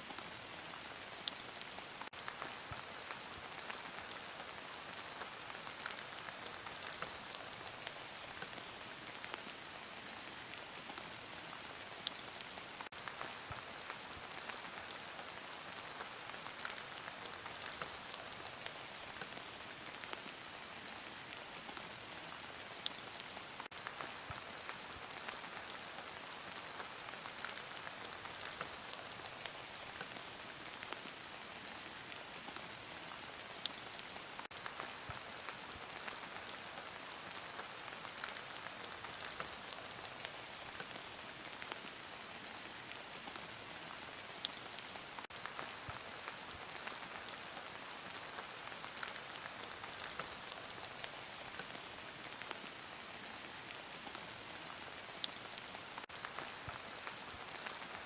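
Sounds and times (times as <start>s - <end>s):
heavy rain falling: 0.6s - 58.0s.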